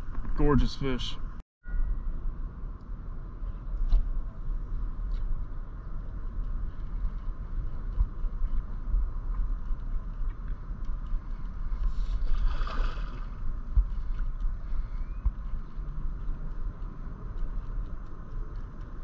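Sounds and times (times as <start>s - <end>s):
wind buffeting microphone: 2.4s - 19.0s.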